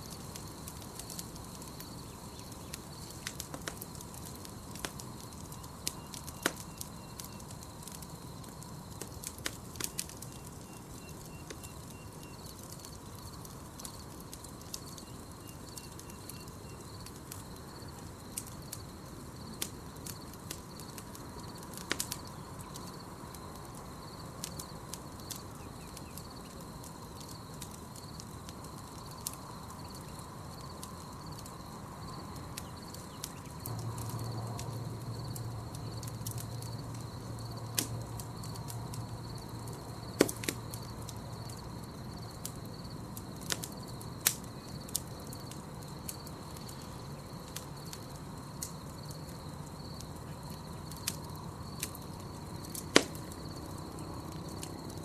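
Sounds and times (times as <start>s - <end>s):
campfire crackling and popping: 0.0s - 55.0s
insect chorus: 0.0s - 55.0s.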